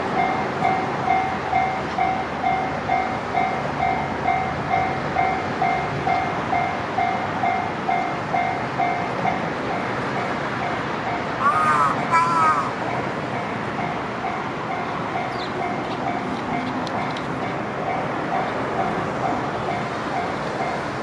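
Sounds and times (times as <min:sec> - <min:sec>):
level crossing warning bell: 0:00.0 - 0:21.0
train passing: 0:00.0 - 0:21.0.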